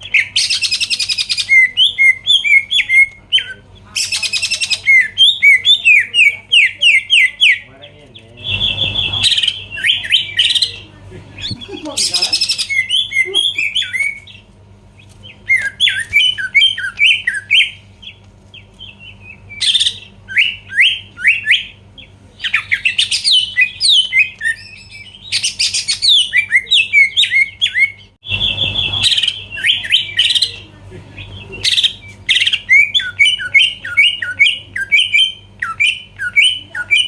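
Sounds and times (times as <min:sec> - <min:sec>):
bird singing rapid sliding chirps: 0:00.0 - 0:30.6.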